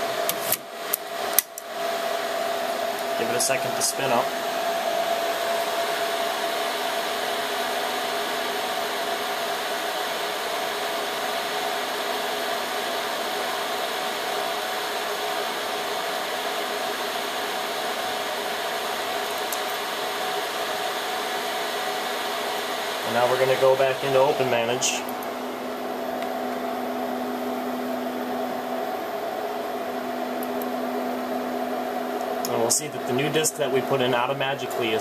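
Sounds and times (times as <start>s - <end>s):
server cooling fan rushing: 0.0s - 35.0s.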